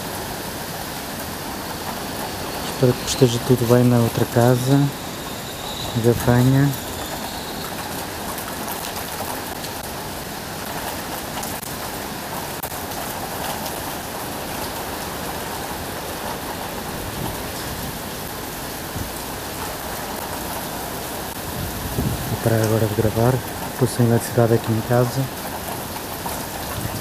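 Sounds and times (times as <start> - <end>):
rain falling on streets: 0.0 - 27.0.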